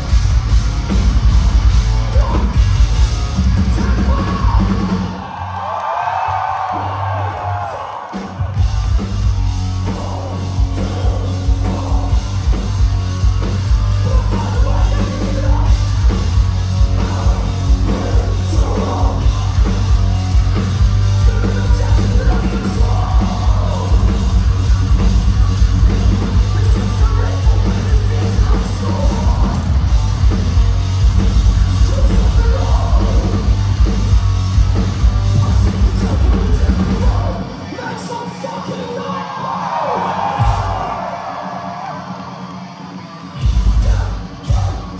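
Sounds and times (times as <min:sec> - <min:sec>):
metalcore band playing live: 0:00.0 - 0:05.6, 0:06.3 - 0:44.9.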